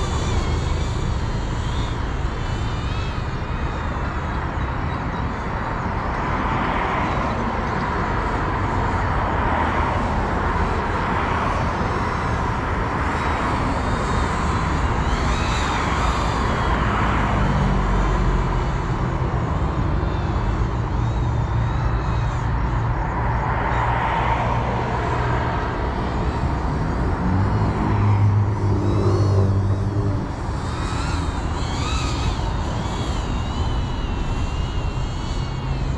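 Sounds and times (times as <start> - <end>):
drone propellers whining: 0.0 - 35.9.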